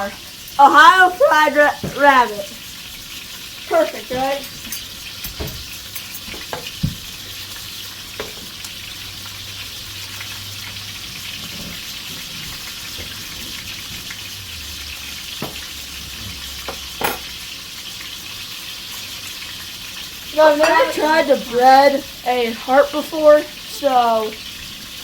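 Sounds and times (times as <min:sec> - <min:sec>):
meat frying in hot oil: 0:00.0 - 0:25.0.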